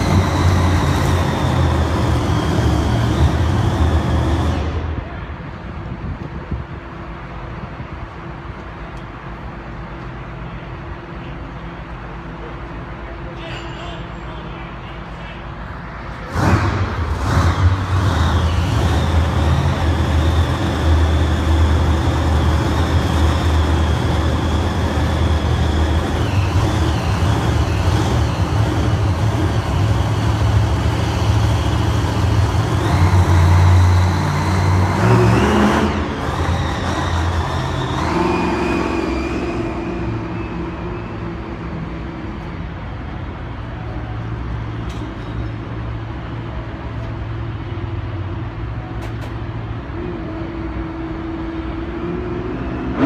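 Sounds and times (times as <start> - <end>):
truck engine rumble with whine: 0.0 - 53.0.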